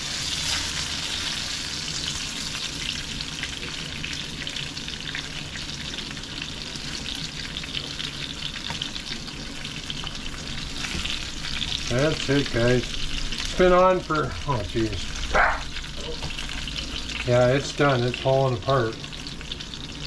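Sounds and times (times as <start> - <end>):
fish fillets sizzling in oil: 0.0 - 20.0.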